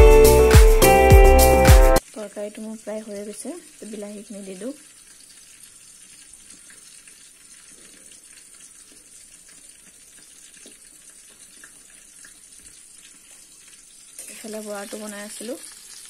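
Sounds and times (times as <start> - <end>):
curry simmering bubbling hiss: 2.0 - 16.0.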